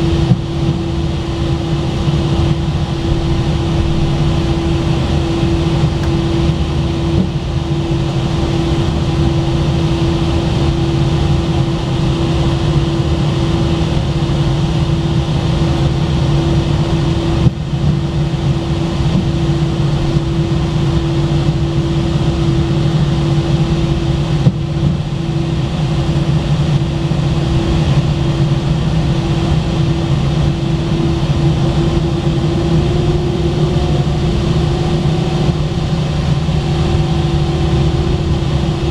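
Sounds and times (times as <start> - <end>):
jet engine cabin hum: 0.0 - 38.9.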